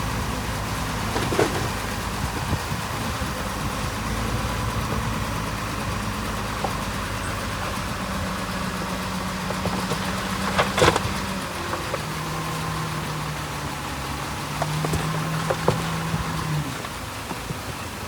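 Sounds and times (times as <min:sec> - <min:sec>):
heavy machinery diesel engine: 0:00.0 - 0:18.0.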